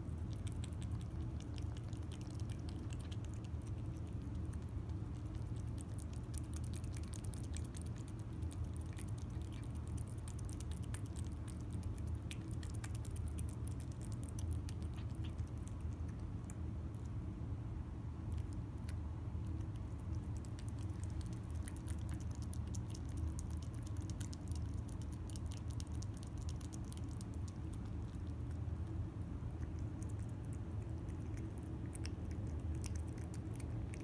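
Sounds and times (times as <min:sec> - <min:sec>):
cat chewing wet food: 0:00.0 - 0:17.4, 0:18.0 - 0:34.0
low steady hum: 0:00.0 - 0:34.0.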